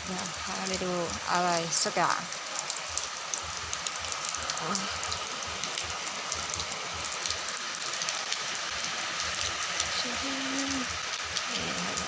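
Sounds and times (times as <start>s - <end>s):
raindrops ticking on surfaces: 0.0s - 12.0s
steady rain hiss: 0.0s - 12.0s.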